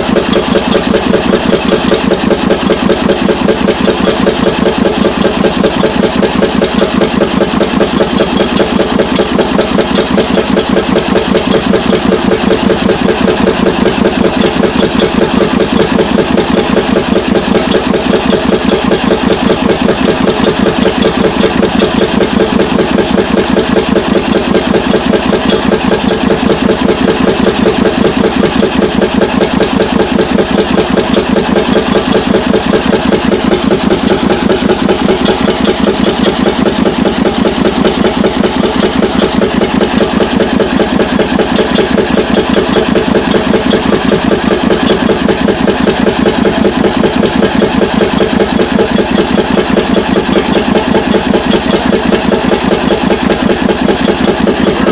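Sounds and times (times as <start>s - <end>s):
diesel boat engine running: 0.0s - 54.9s.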